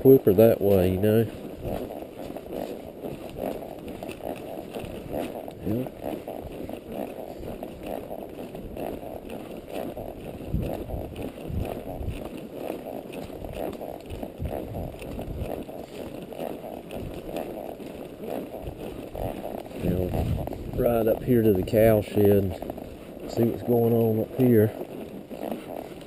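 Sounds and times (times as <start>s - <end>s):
hoofbeats on dirt: 0.0s - 26.0s.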